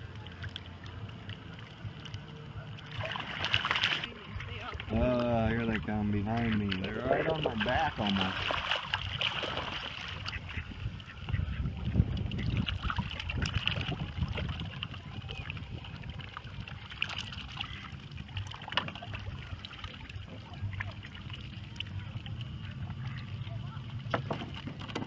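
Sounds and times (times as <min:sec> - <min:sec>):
ducks paddling splashes: 0:00.0 - 0:25.0
water lapping and sloshing: 0:00.0 - 0:25.0.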